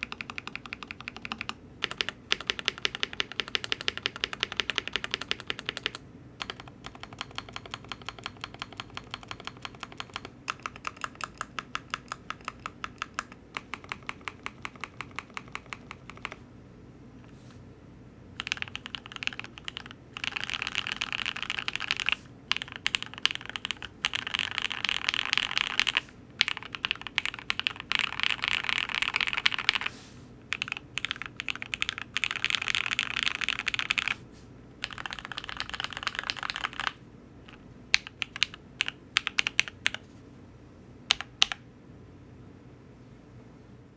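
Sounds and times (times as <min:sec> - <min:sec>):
typing on mechanical keyboard: 0:00.0 - 0:16.4, 0:18.4 - 0:29.9, 0:30.5 - 0:34.2, 0:34.8 - 0:40.0, 0:41.1 - 0:41.6.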